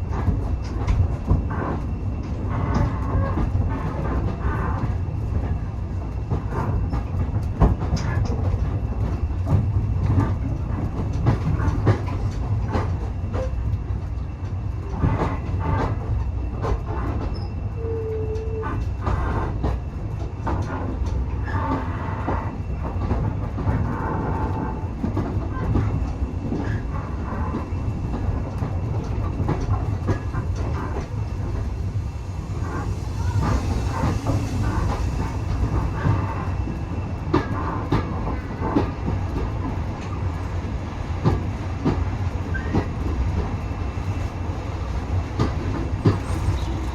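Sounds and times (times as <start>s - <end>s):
train carriage rumble: 0.0s - 46.9s.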